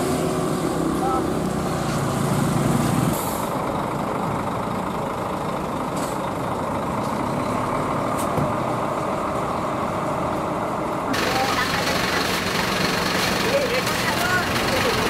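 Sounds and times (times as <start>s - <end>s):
diesel bus engine idling: 0.0s - 15.0s.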